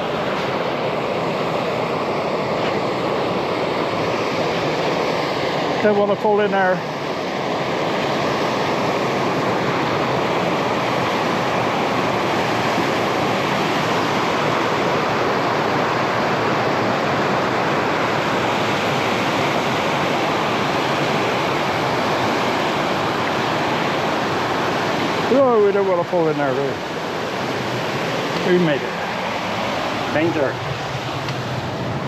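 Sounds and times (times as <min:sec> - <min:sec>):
river rushing over rocks: 0:00.0 - 0:32.0.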